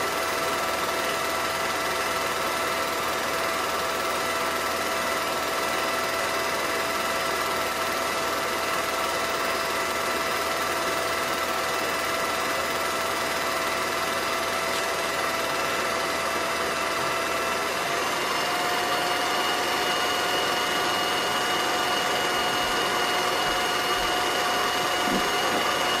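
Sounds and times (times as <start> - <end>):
film projector whirring: 0.0 - 26.0.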